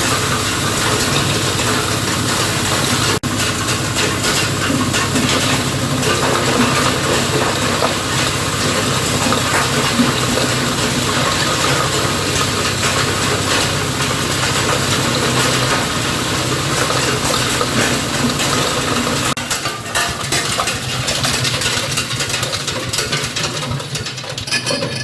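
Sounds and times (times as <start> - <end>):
soil grinding machine running: 0.0 - 25.0.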